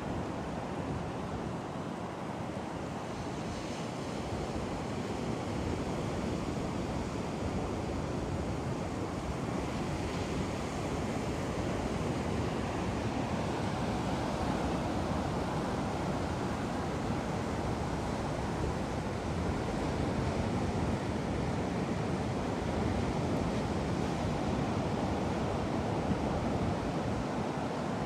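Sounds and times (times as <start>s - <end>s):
wind: 0.0s - 28.0s.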